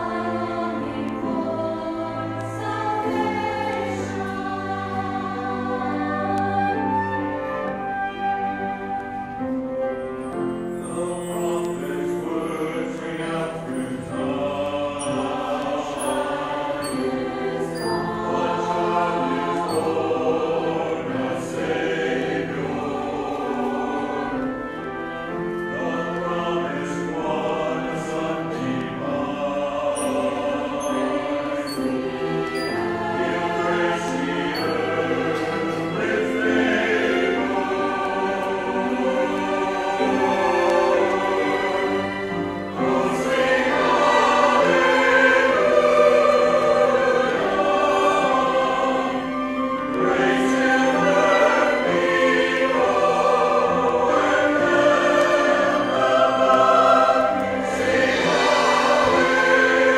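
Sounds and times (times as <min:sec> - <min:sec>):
church choir singing: 0:00.0 - 0:59.9
string ensemble: 0:00.0 - 0:59.9.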